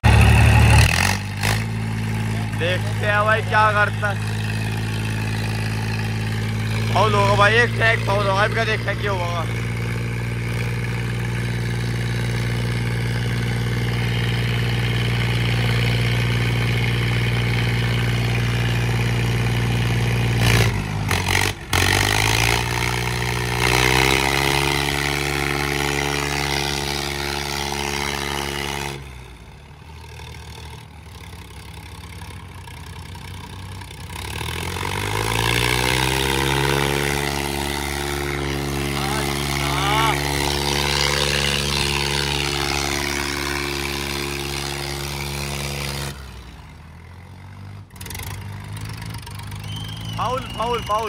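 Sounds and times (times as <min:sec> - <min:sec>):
tractor diesel engines labouring: 0:00.0 - 0:51.0.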